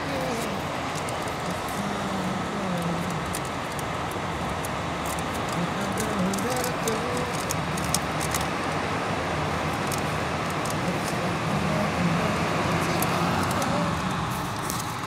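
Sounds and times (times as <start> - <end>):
faint distant voices: 0.0 - 4.4, 5.0 - 15.0
background traffic: 0.0 - 15.0.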